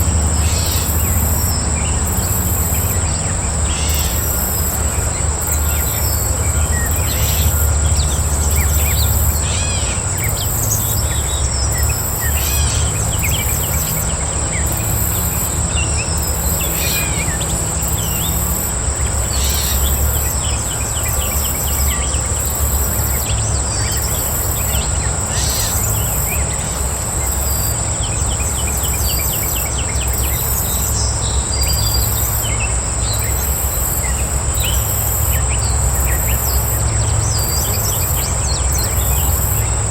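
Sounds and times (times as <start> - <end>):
birds chirping and calling: 0.0 - 39.8
high-pitched insect trill: 0.0 - 39.9
pulsing high insect sound: 0.0 - 39.9.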